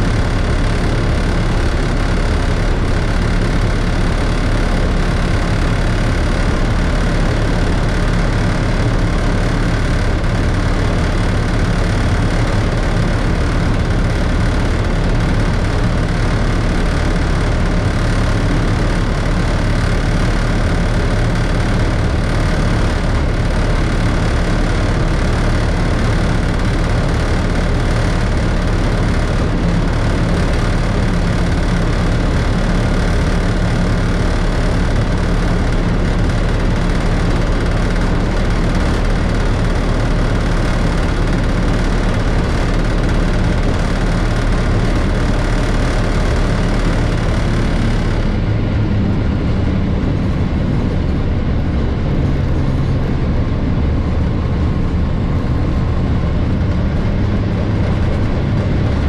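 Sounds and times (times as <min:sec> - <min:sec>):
locomotive diesel engine running: 0:00.0 - 0:59.0.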